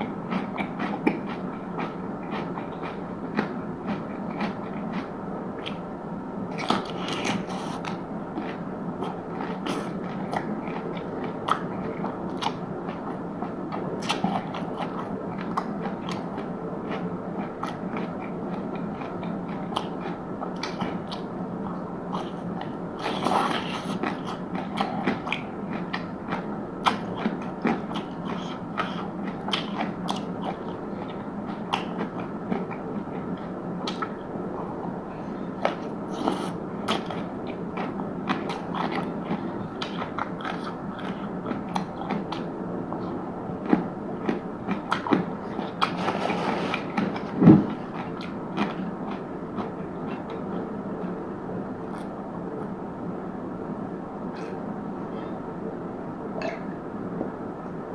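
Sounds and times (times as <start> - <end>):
steady background hum: 0.0 - 57.9
chewing and crunching: 0.3 - 5.8, 6.5 - 34.8, 35.4 - 50.7.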